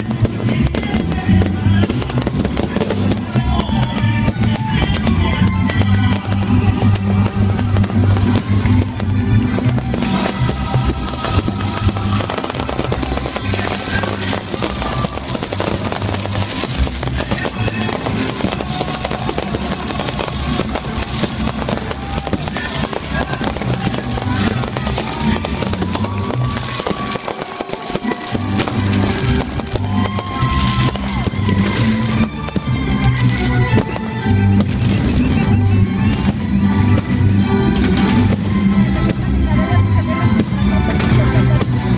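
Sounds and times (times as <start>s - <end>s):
fireworks crackling and popping: 0.0s - 41.9s.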